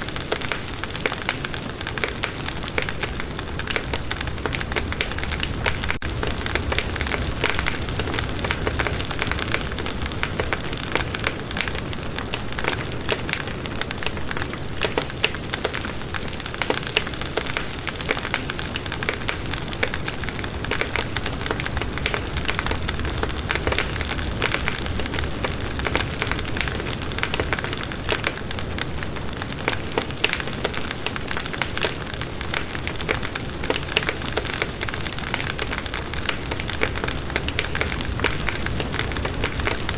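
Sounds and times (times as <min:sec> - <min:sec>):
bonfire crackling: 0:00.0 - 0:39.9.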